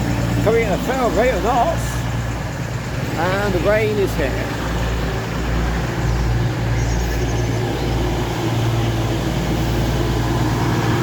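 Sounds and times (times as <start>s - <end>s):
train diesel engines humming: 0.0s - 11.0s.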